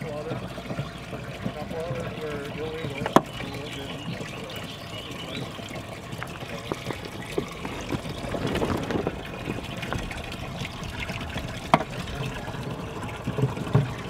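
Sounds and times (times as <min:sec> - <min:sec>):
water splashing and dripping: 0:00.0 - 0:14.0.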